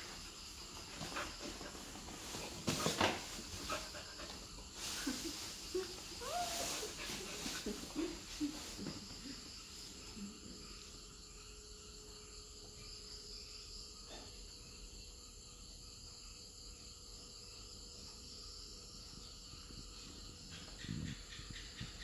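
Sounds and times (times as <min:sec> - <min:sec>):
insect chirring: 0:00.0 - 0:22.0.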